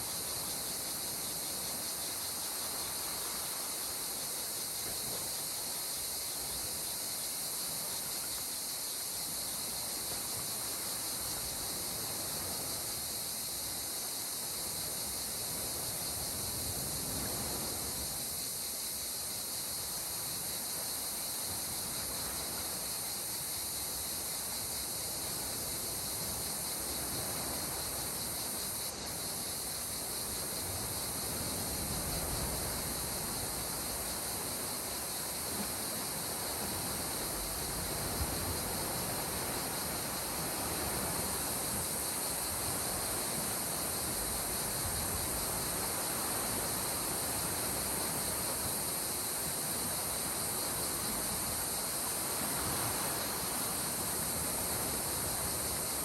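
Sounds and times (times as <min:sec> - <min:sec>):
steady high-pitched hiss: 0:00.0 - 0:56.0.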